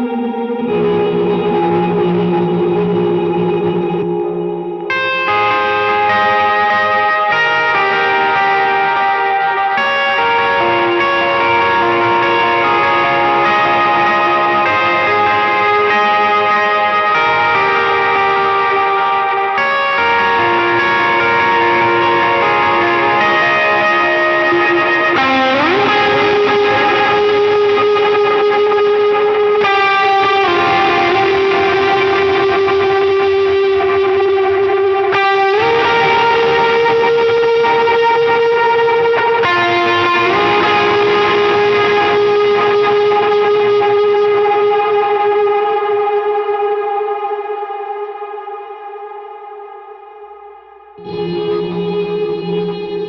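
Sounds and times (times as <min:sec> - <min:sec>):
electric guitar lead melody: 0:00.0 - 0:53.0.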